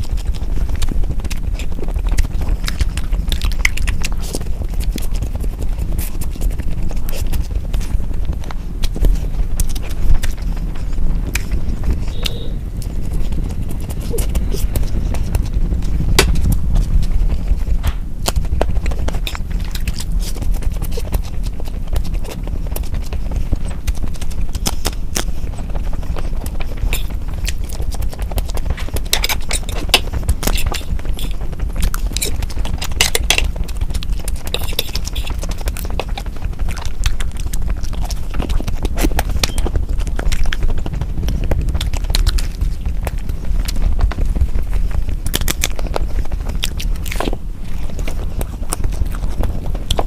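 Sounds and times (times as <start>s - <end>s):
chewing with wet mouth smacks: 0.0s - 50.0s
crisp crackling of food: 0.0s - 50.0s
steady low rumble: 0.0s - 50.0s.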